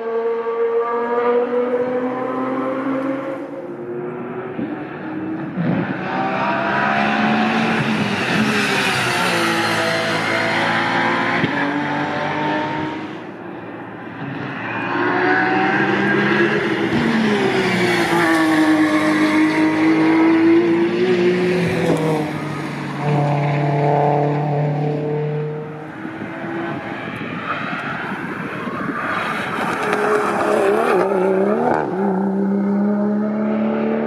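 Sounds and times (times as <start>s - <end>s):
race cars driving past: 0.0s - 34.0s.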